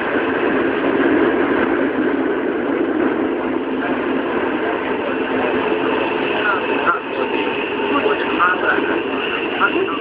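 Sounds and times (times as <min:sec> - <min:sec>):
subway train running in tunnel: 0:00.0 - 0:10.0.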